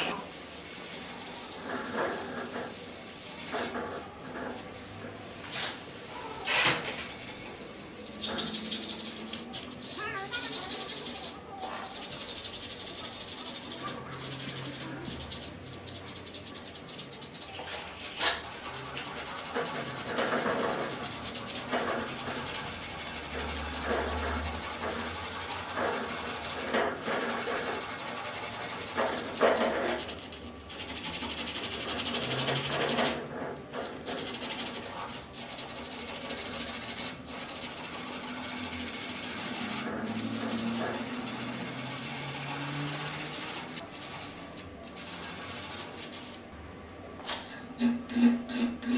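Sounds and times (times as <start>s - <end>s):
sandpaper rasping on metal: 0.0s - 33.2s, 34.0s - 46.4s.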